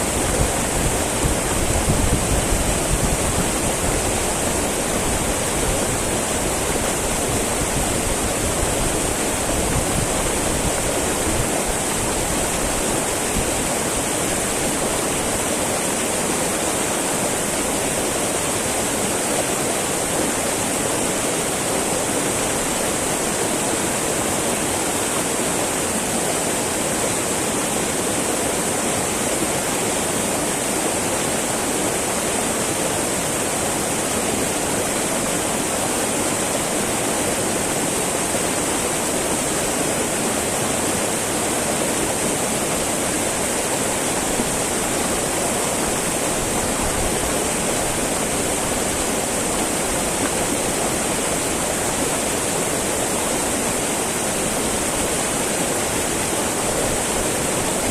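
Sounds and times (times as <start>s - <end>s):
river rushing over rocks: 0.0s - 57.9s.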